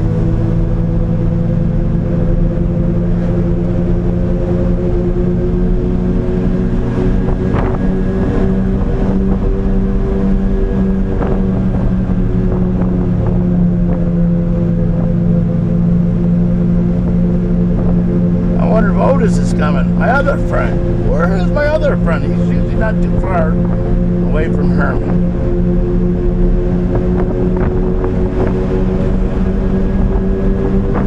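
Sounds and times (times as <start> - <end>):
road noise: 0.0 - 31.0
truck engine cruising: 0.0 - 31.0.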